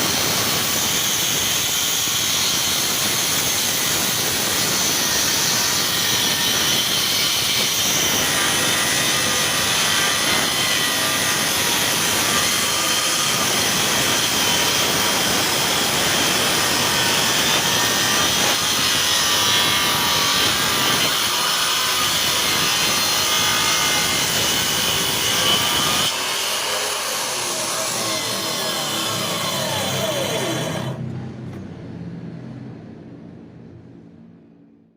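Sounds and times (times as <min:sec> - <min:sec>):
power tool cutting wood: 0:00.0 - 0:31.0.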